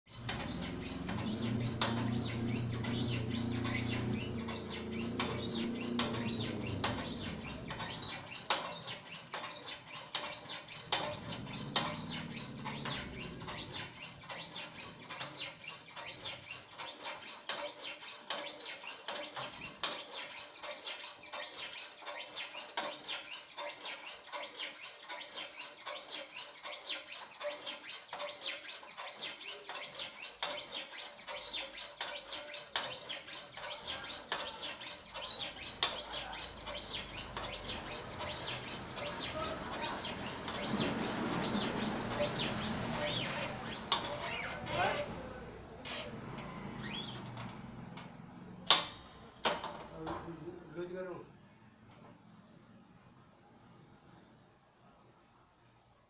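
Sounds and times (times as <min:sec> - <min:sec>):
hand stacker pump squeaky clicks: 0:00.1 - 0:44.7, 0:45.8 - 0:49.8.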